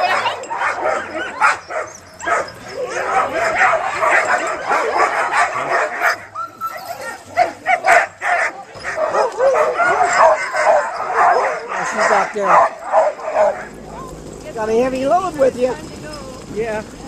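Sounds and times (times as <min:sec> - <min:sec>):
dog howling: 0:00.0 - 0:14.4
dogs barking and yipping: 0:00.0 - 0:17.0.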